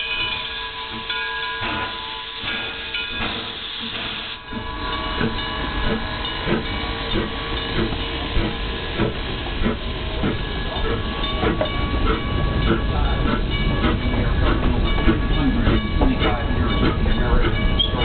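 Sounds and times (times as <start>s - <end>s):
steam hissing: 0.0s - 18.0s
steam locomotive knocks and clanks: 0.0s - 18.0s.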